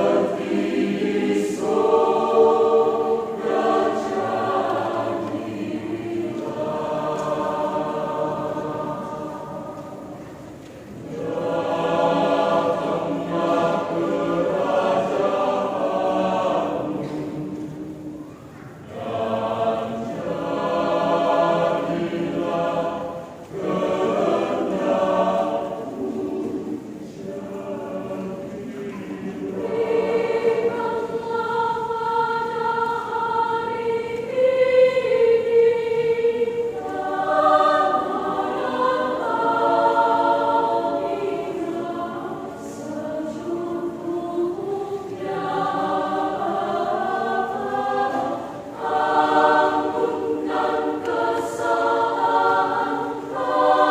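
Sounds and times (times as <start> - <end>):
mixed choir singing a hymn: 0.0 - 53.9.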